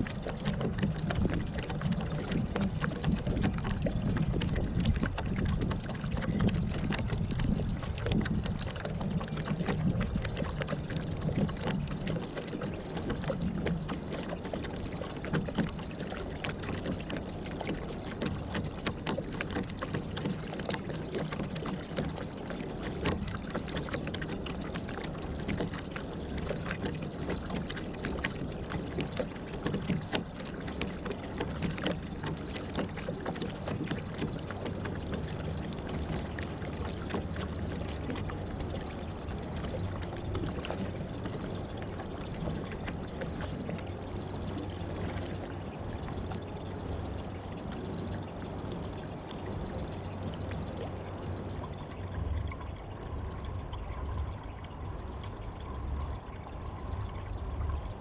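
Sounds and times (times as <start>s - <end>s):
water splashing and lapping: 0.0s - 58.0s.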